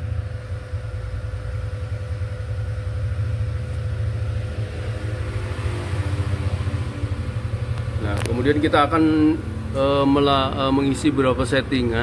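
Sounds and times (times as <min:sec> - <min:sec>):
constant hum: 0:00.0 - 0:12.0
low machinery rumble: 0:00.0 - 0:12.0.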